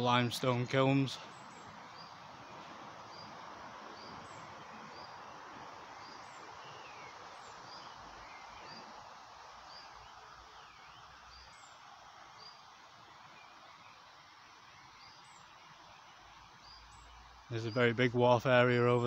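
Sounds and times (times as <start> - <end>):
birds giving falling calls: 0.0 - 19.0
steady background hiss: 0.0 - 19.0.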